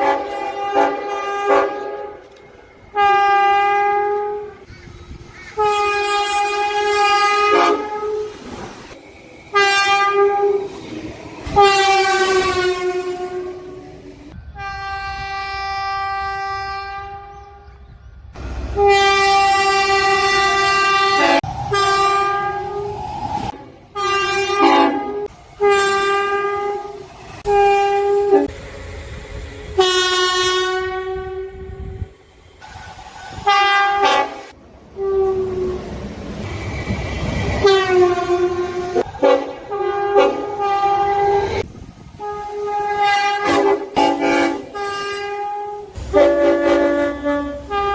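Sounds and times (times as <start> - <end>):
train air horn blasts: 0.0 - 4.7, 5.5 - 8.4, 9.5 - 10.8, 11.5 - 17.7, 18.7 - 28.6, 29.7 - 32.2, 33.3 - 35.9, 37.6 - 47.9
moving train rumble: 0.0 - 47.9.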